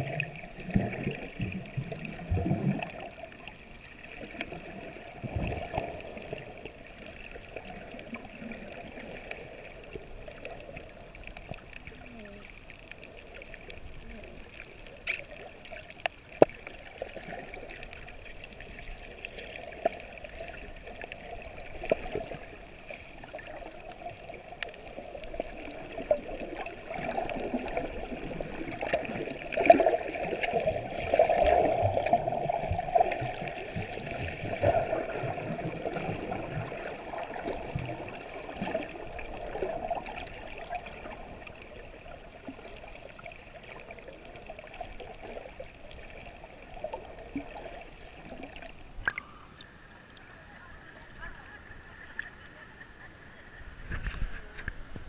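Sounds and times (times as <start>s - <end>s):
water sloshing and gurgling: 0.0s - 55.0s.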